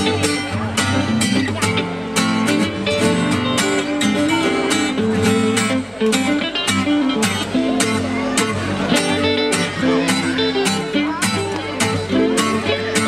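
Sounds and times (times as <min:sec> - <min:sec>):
acoustic guitar: 0:00.0 - 0:13.0
electric guitar: 0:00.0 - 0:13.0.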